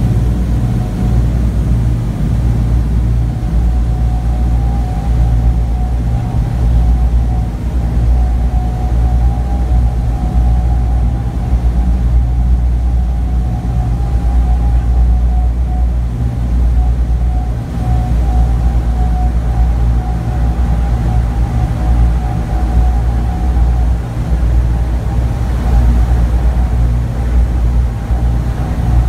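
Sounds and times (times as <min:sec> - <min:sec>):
aircraft engines droning: 0:00.0 - 0:29.0
thin steady whine: 0:00.0 - 0:29.0.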